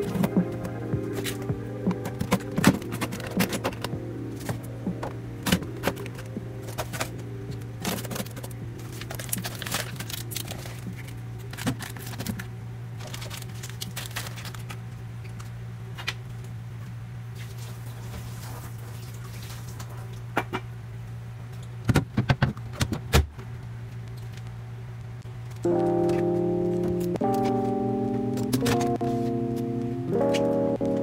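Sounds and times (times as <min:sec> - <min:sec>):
freezer hum: 0:00.0 - 0:31.0.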